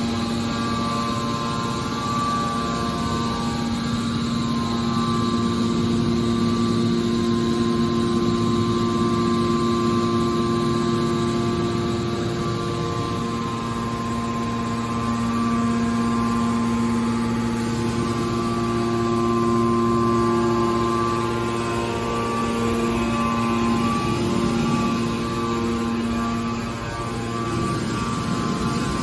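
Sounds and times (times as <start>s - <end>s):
hydraulic power unit humming: 0.0s - 29.0s.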